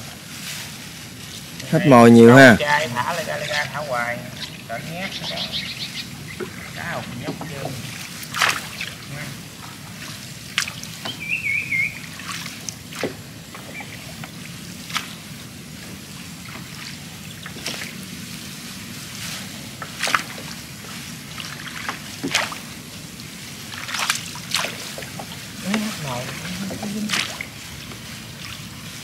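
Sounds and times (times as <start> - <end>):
low steady hum: 0.0 - 29.0
water trickling and splashing: 0.0 - 29.0.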